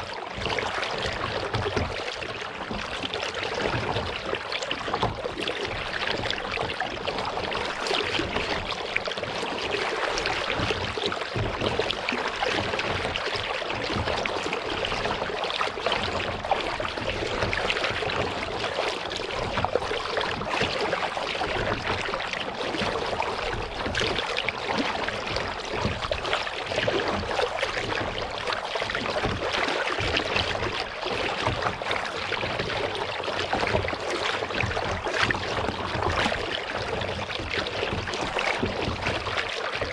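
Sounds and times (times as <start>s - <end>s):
water lapping against kayak: 0.0s - 39.9s.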